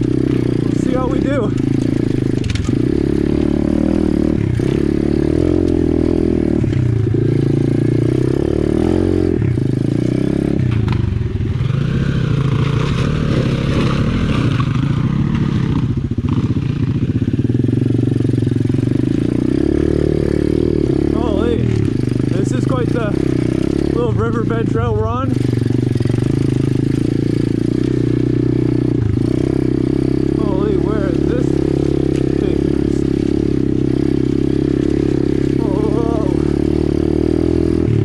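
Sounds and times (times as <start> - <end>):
motorbike engine revving: 0.0 - 38.0.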